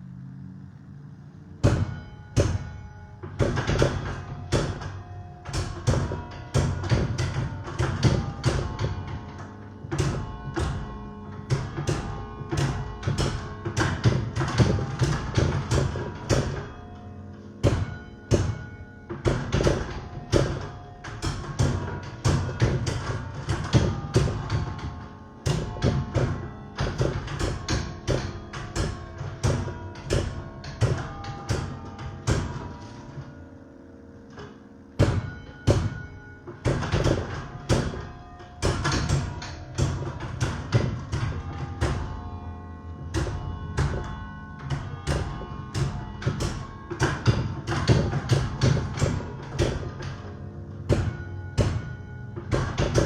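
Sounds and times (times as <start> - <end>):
church bells playing carol melody: 1.4 - 53.0.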